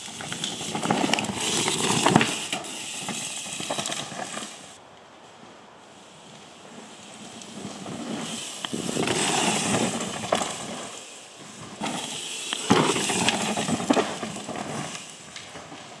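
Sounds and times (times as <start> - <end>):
bike chain and frame clacking: 0.0 - 4.8, 7.4 - 15.7
bike tyres rolling over dirt: 0.0 - 16.0.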